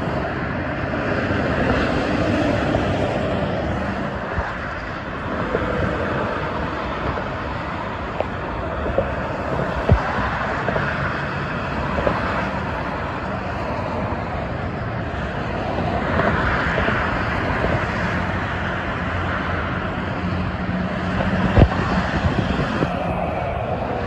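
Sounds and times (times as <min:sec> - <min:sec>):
expressway traffic drone: 0:00.0 - 0:24.0.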